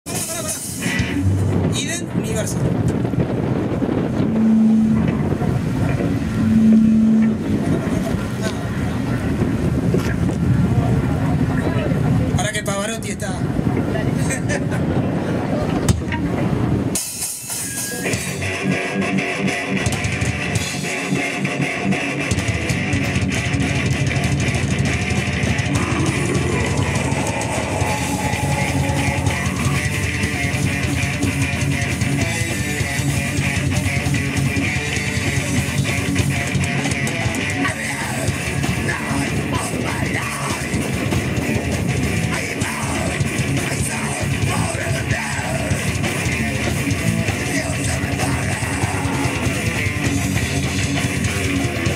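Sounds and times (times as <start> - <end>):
bass and drums: 0.0 - 12.6, 13.2 - 51.9
metal band playing live: 0.1 - 7.6, 16.3 - 51.9.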